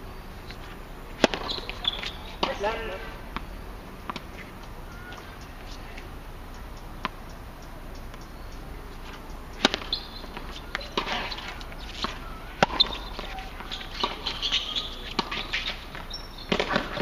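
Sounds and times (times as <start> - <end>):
sneakers squeaking on court: 0.4 - 6.1, 9.0 - 17.0
rackets striking tennis ball: 0.4 - 6.2, 8.0 - 17.0
tennis ball bouncing: 0.4 - 17.0.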